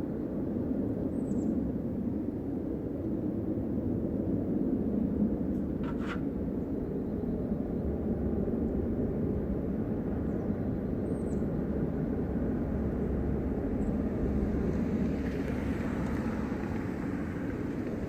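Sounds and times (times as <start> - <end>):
loud low rumble from the sky: 0.0 - 18.0.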